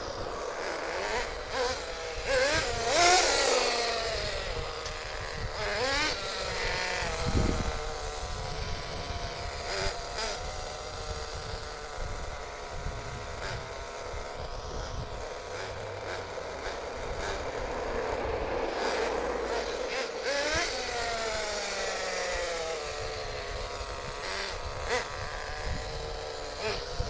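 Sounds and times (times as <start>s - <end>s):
small nitro engine droning: 0.0s - 27.0s.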